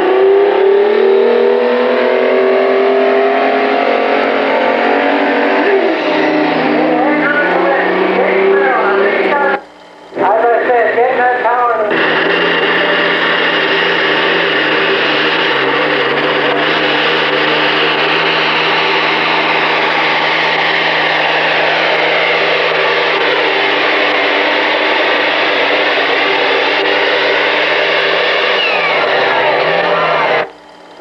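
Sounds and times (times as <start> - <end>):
tractor engine running hard: 0.0 - 31.0.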